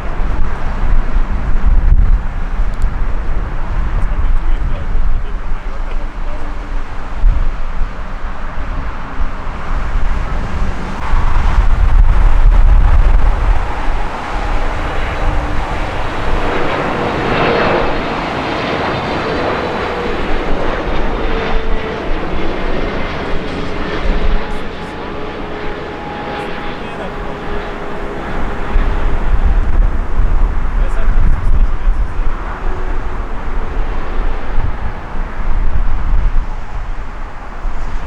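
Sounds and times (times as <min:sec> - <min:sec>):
heavy low rumble: 0:00.0 - 0:38.0
jet engines rushing with whine: 0:00.0 - 0:38.0.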